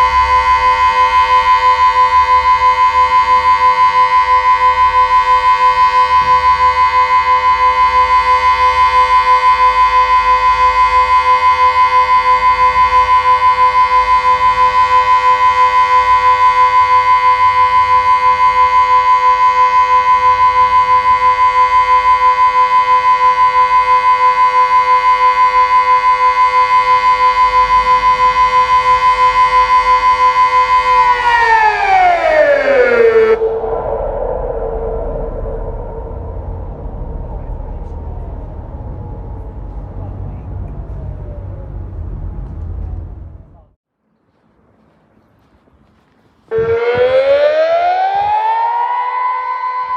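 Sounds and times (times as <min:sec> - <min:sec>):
siren steady tone: 0:00.0 - 0:42.9, 0:46.5 - 0:49.9.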